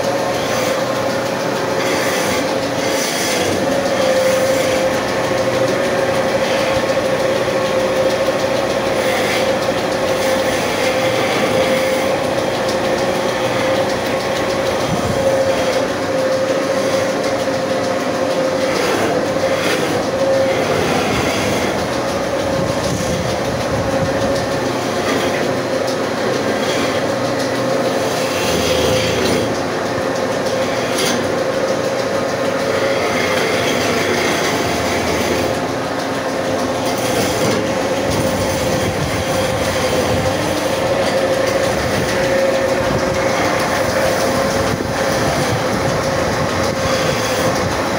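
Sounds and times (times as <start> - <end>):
woodworking machine whine: 0.0 - 47.9
mechanical rattle: 0.1 - 47.9.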